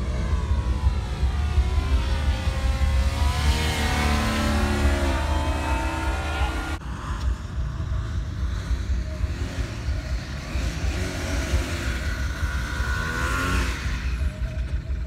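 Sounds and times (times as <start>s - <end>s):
heavy low rumble: 0.0s - 15.0s
paramotor engine and propeller: 0.0s - 15.0s
rising whine: 0.0s - 15.0s.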